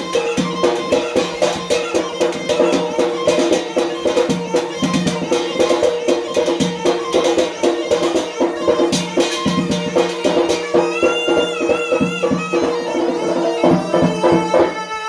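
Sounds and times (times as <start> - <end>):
quick steady drum strokes: 0.0 - 14.9
reed pipe playing dance melody: 0.0 - 15.0.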